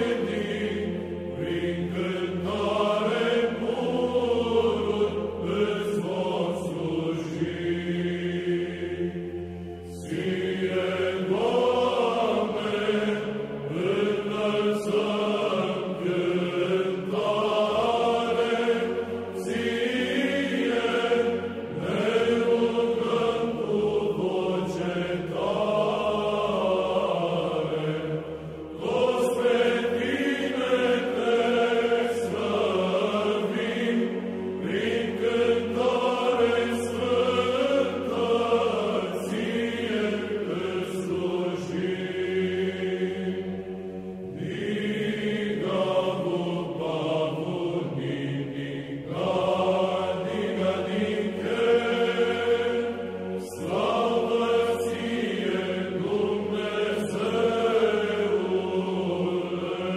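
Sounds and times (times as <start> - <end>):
choir chanting: 0.0 - 59.9.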